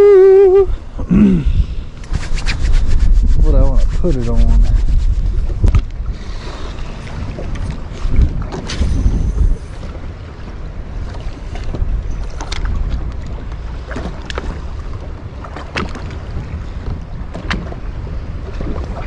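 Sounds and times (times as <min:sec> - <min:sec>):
water lapping against hull: 0:00.0 - 0:19.0
wind rumble on microphone: 0:00.0 - 0:19.0
waves slapping boat side: 0:02.0 - 0:19.0.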